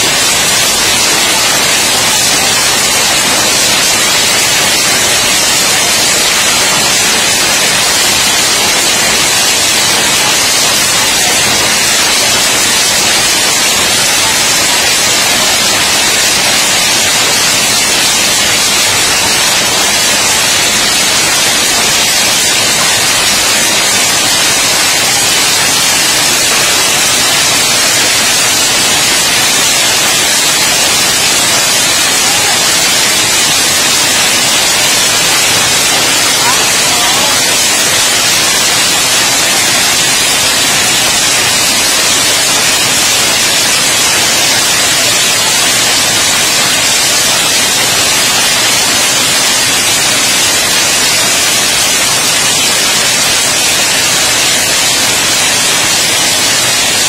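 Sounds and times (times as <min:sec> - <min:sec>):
heavy hail pelting ground: 0:00.0 - 0:57.0.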